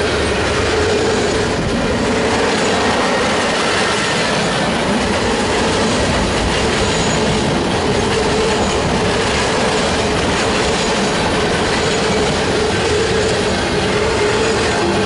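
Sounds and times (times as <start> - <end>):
freight train cars rolling: 0.0 - 15.0.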